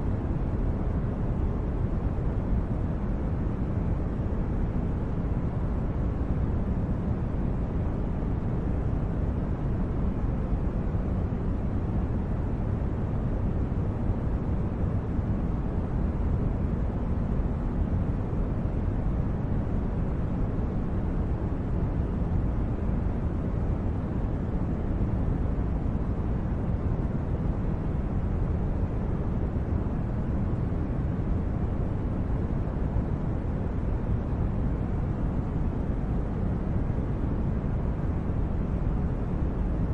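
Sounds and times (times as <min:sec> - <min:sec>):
steady low rumbling noise: 0:00.0 - 0:39.9.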